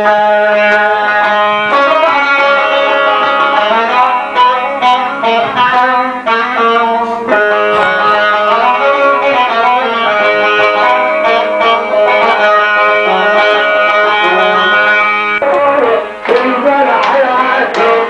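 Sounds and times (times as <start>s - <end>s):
folk string instrument melody: 0.0s - 18.0s.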